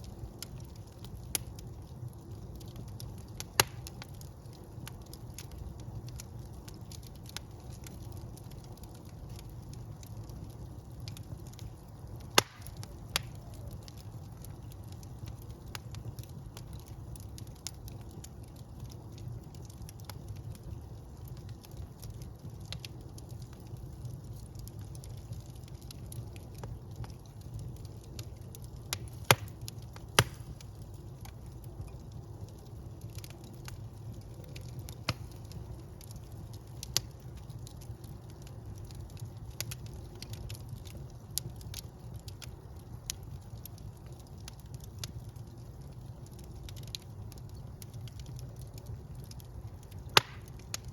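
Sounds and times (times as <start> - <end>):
fire crackling: 0.0 - 50.9
fire flames rumbling: 0.0 - 50.9
wood fire popping: 0.0 - 50.9.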